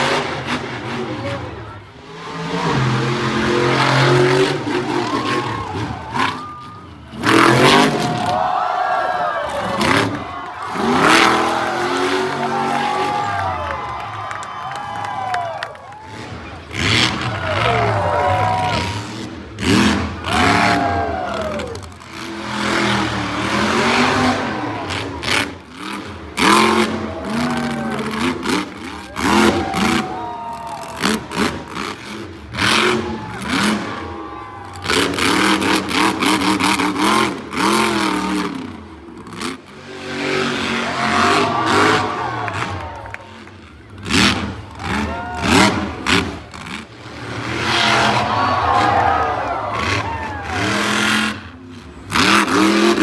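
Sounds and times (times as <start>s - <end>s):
arena noise: 0.0s - 53.0s
monster truck engine revving: 0.0s - 53.0s.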